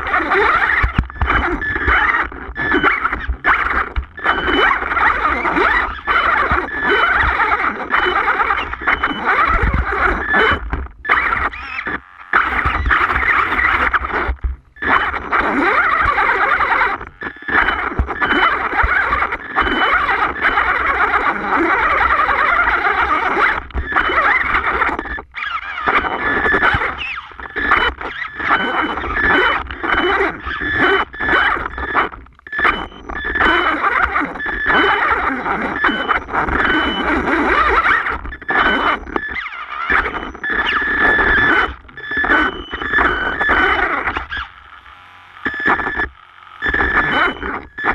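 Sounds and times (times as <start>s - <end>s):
electric toy truck motor whining: 0.0s - 47.9s.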